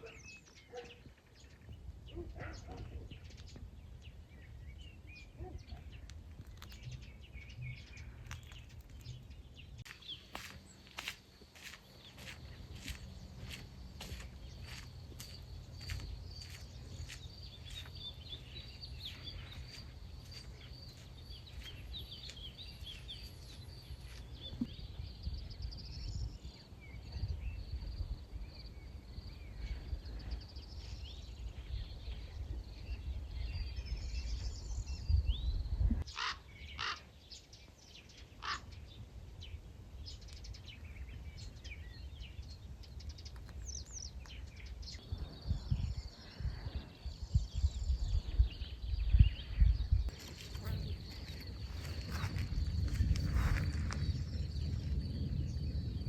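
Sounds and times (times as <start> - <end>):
birds singing and chirping: 0.0 - 56.0
wind rumble on microphone: 0.0 - 56.0.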